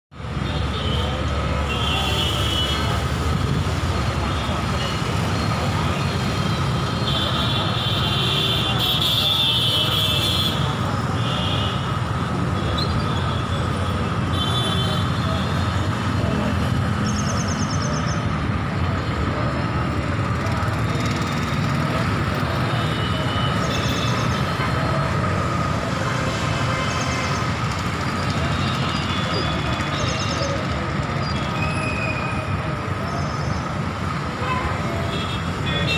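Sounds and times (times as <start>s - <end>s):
city traffic rumble: 0.1s - 35.9s.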